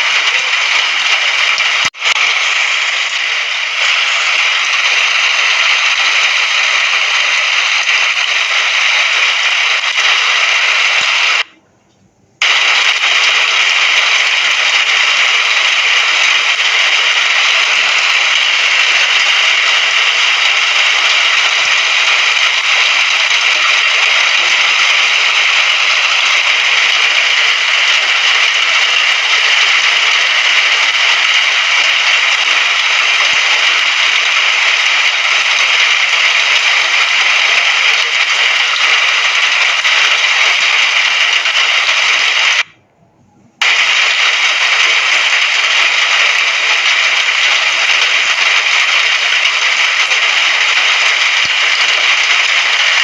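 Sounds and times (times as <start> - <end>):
heavy rain hiss: 0.0 - 11.5, 12.4 - 42.7, 43.6 - 53.0.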